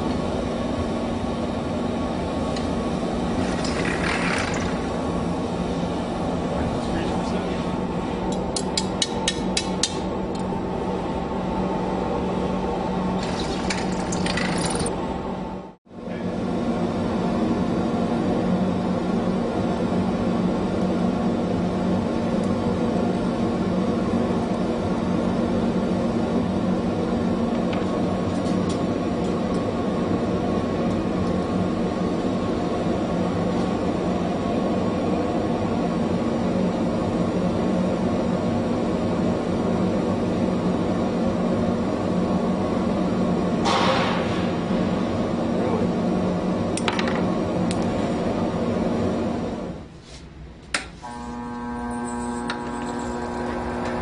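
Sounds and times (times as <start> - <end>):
furnace burner roar and hum: 0.0 - 54.0.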